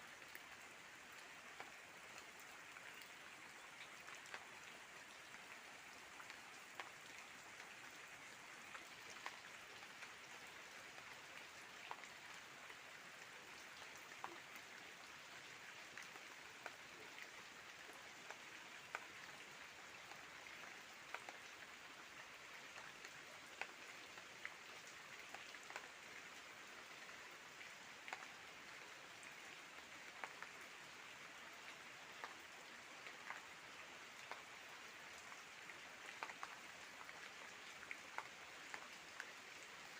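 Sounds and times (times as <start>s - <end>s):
individual raindrops landing: 0.0s - 39.9s
soft steady rain: 0.0s - 39.9s.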